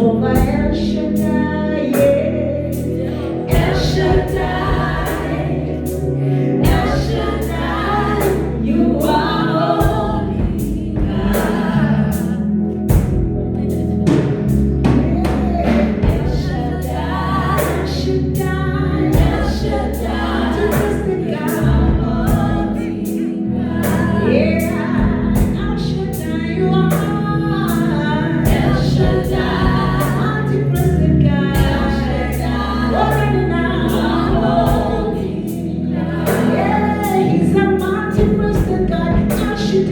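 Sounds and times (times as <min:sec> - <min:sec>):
choir singing: 0:00.0 - 0:39.9
held bass notes: 0:00.0 - 0:39.9
steady beat: 0:02.0 - 0:09.2, 0:09.8 - 0:26.3, 0:28.4 - 0:39.7.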